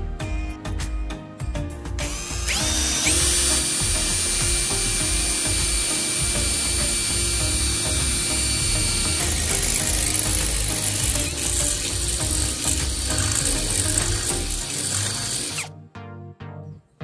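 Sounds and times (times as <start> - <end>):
background music: 0.0 - 17.0
power tool motor whine: 2.0 - 15.7.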